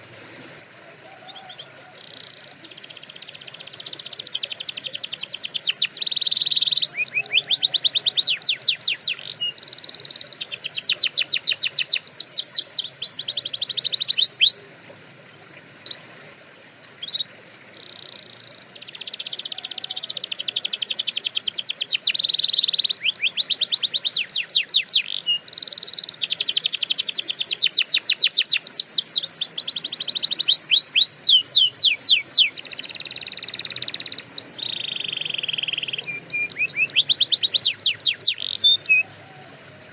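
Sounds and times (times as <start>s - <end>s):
canary singing in trills: 1.1s - 14.7s, 16.8s - 39.9s.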